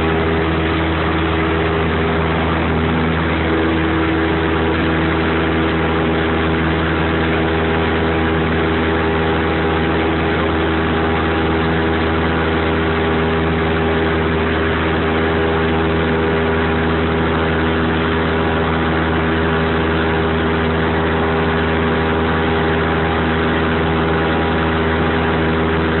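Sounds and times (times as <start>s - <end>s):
airplane engine and propeller droning: 0.0s - 26.0s.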